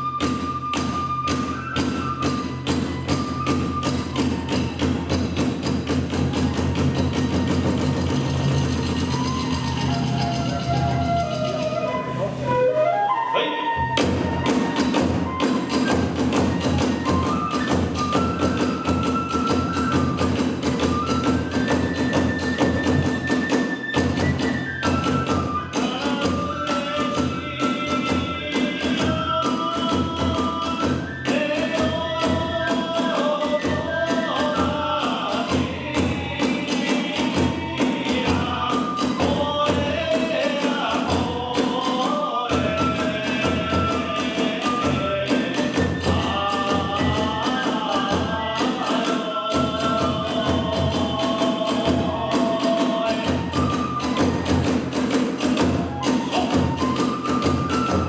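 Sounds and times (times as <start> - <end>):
quick steady drumbeats: 0.0 - 11.9, 13.9 - 58.0
bamboo flute melody: 0.0 - 58.0.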